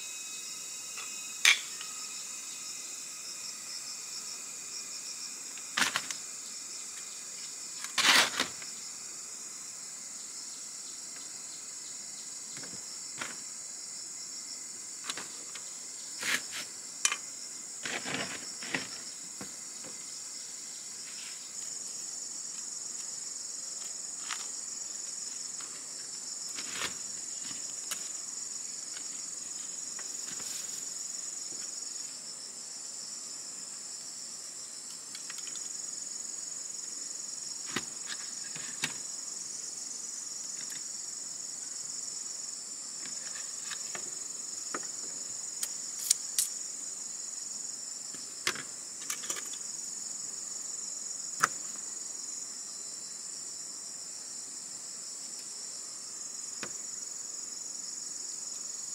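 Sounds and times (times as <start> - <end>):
insects chorus: 0.0 - 58.9.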